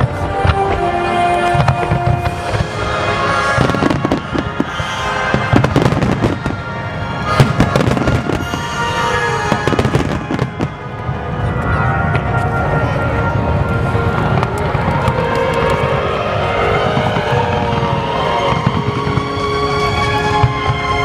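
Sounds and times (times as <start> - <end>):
fireworks bursting and crackling: 0.0 - 21.0
music: 0.0 - 21.0.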